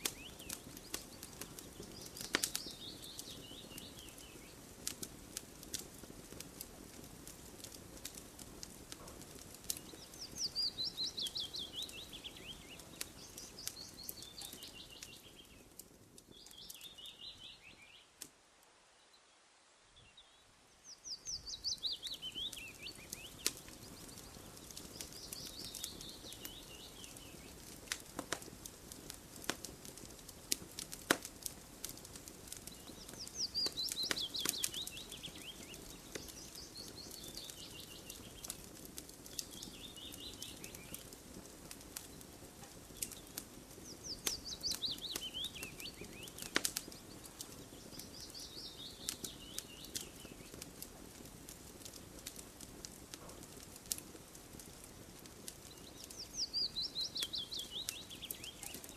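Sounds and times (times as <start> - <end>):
campfire crackling and popping: 0.0 - 18.7, 20.8 - 58.9.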